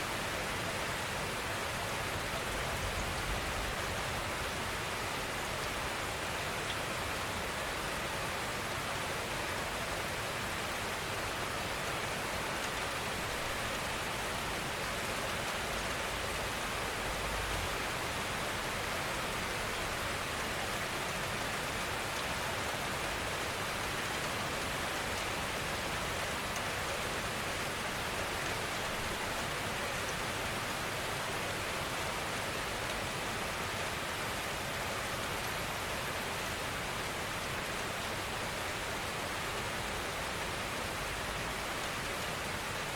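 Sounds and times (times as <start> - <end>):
gentle rain: 0.0 - 42.9.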